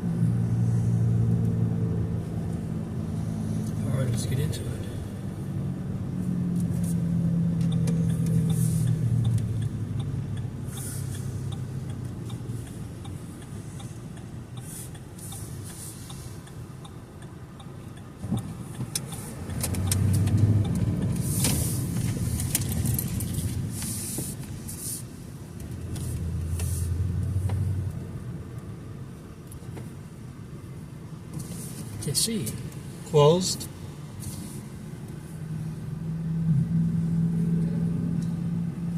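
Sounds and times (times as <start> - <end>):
car engine: 0.0 - 38.9
road noise: 0.0 - 38.9.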